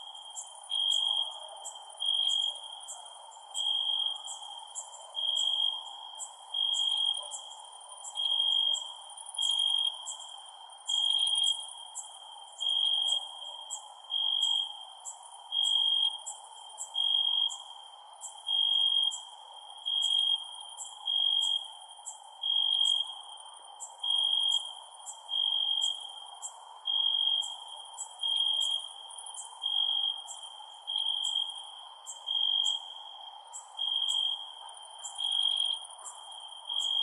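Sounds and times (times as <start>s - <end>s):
cricket chirping: 0.0s - 37.0s
higher-pitched cricket chirping: 0.0s - 37.0s.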